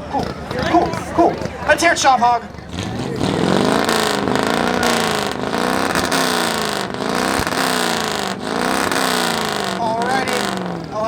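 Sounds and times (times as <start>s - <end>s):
car engine revving: 0.0s - 11.0s
exhaust pop: 0.0s - 11.0s.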